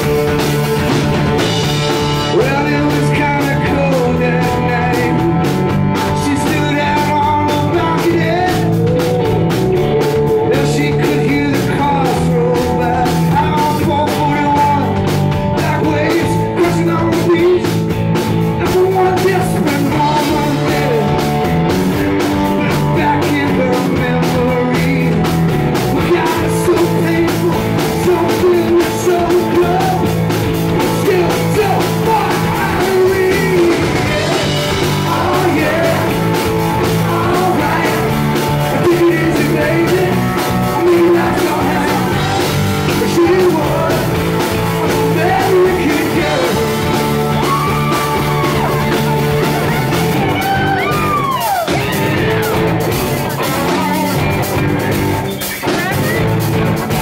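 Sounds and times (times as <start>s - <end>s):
bass: 0.0s - 57.0s
drum beat: 0.0s - 57.0s
electric guitar: 0.0s - 57.0s
man singing: 1.5s - 52.6s, 53.3s - 54.4s.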